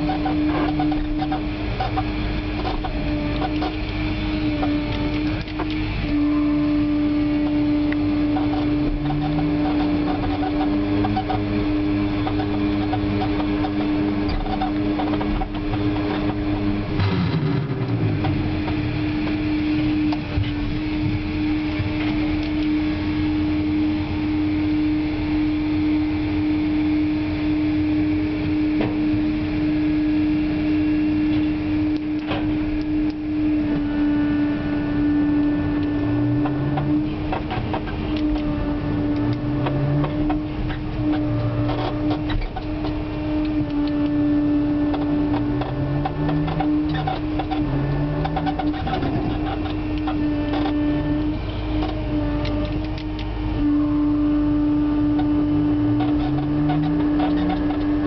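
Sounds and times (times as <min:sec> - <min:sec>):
drive motor winding up and down: 0:00.0 - 0:58.0
machinery hum: 0:00.0 - 0:58.0.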